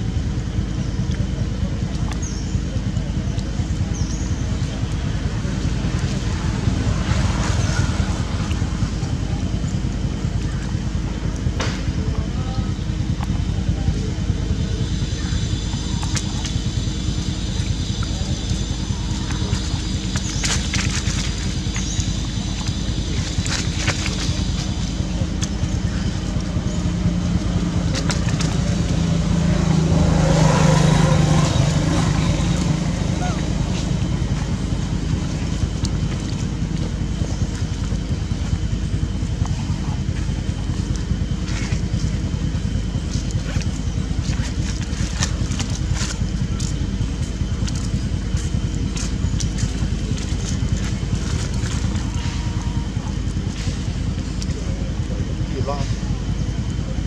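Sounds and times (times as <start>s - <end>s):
engine hum: 0.0s - 57.0s.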